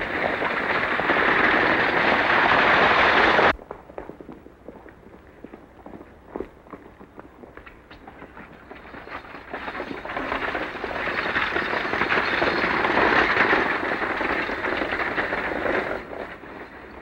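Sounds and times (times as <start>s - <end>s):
hoofbeats and wheels clattering: 0.0s - 17.0s.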